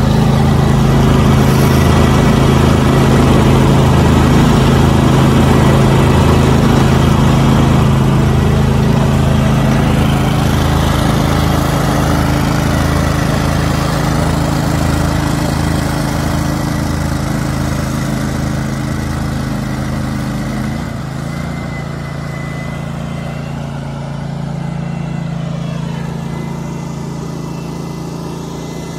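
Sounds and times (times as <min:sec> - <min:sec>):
aerator engine running: 0:00.0 - 0:28.9.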